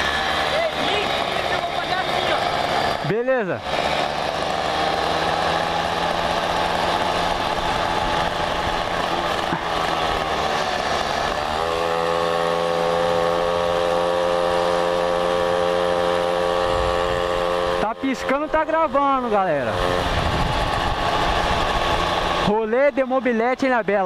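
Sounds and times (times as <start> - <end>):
moped engine running: 0.0 - 24.0.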